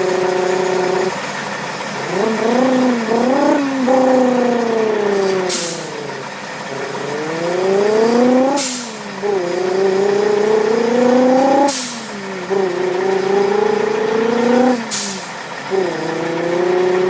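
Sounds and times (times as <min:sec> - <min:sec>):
person imitating engine revs: 0:00.0 - 0:17.0.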